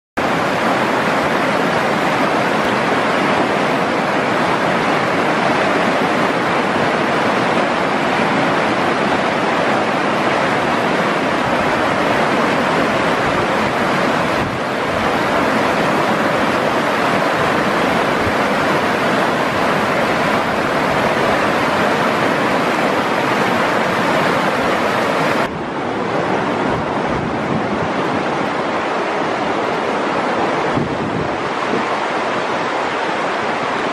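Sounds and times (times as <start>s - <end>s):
river rapids roaring over rocks: 0.2s - 33.9s.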